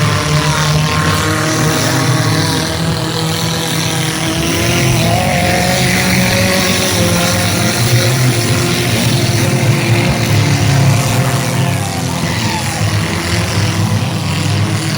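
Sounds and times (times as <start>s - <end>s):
car engines revving: 0.0s - 14.9s.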